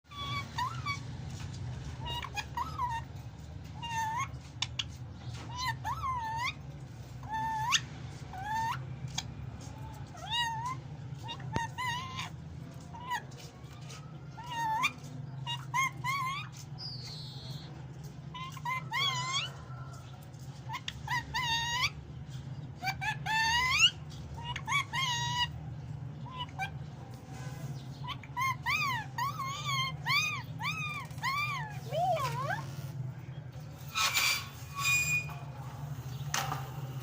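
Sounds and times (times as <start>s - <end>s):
parakeet squeaky calls: 0.1s - 37.0s.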